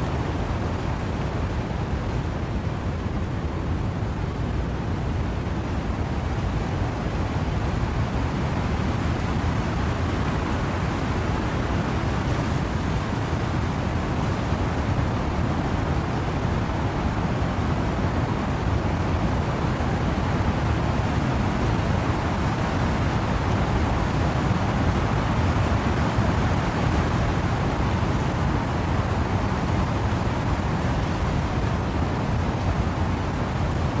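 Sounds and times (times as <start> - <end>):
wind and rain in trees: 0.0 - 34.0.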